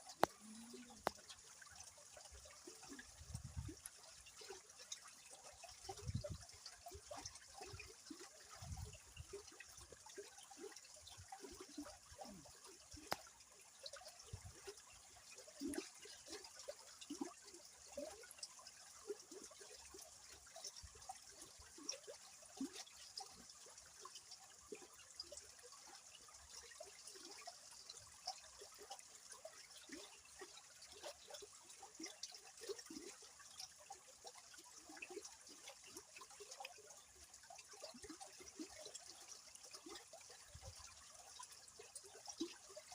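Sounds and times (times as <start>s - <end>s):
river water gurgling: 0.0s - 42.9s.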